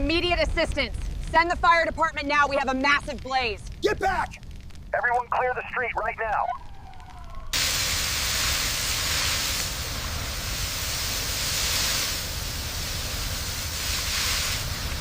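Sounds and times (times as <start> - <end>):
steady rushing hiss: 0.0 - 6.3, 7.2 - 15.0.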